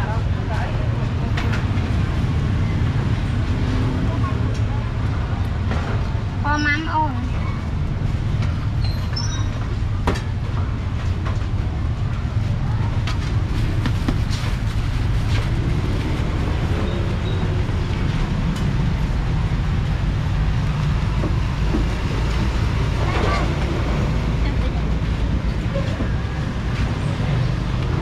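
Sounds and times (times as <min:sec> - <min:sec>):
low street noise rumble: 0:00.0 - 0:28.0.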